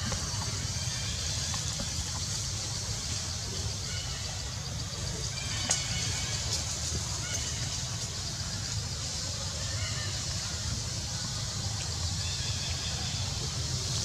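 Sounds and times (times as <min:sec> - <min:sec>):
high pulsing hiss: 0:00.0 - 0:14.0.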